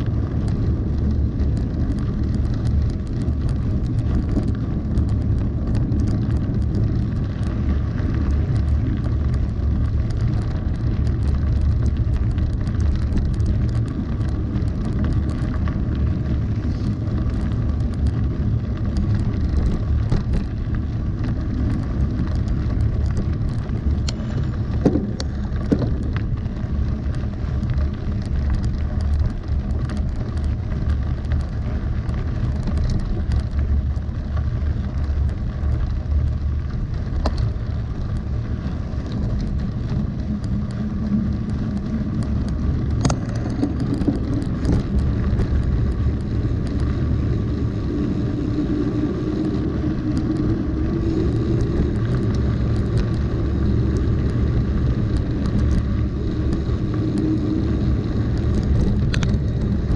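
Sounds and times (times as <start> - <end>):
bike rattles and clicks: 0.0 - 59.9
bike tyres rumbling on gravel: 0.0 - 59.9
wind on microphone: 0.0 - 59.9.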